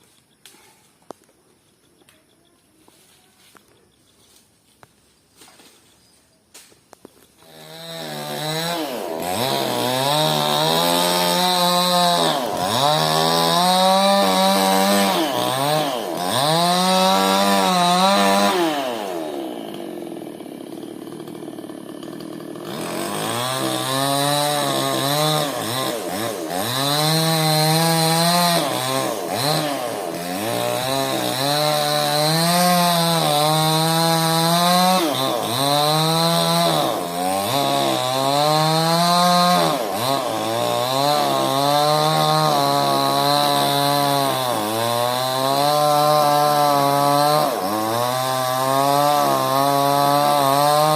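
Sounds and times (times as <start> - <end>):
chainsaw engine revving: 7.4 - 50.9.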